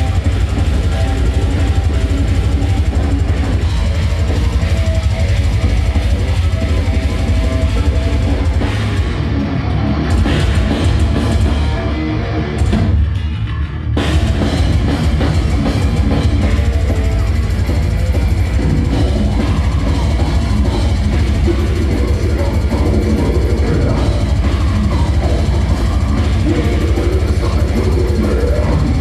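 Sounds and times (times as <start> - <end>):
bass guitar: 0.0 - 29.0
distorted electric guitar: 0.0 - 29.0
pounding drum kit: 0.0 - 29.0.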